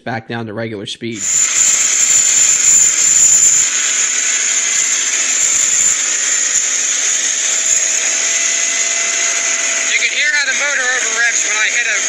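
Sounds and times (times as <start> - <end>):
tractor engine whining: 1.2 - 12.0.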